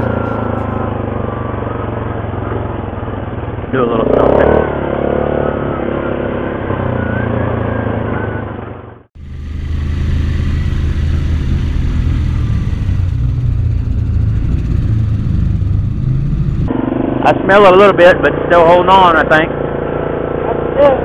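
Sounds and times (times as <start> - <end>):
atv engine running: 0.0 - 6.0, 9.2 - 21.0.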